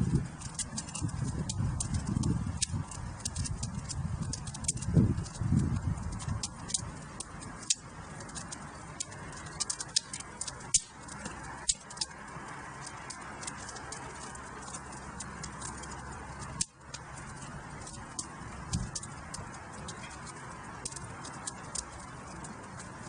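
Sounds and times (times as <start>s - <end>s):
fireplace fire crackling: 0.0s - 23.0s
soft hiss of burning logs: 0.0s - 23.0s.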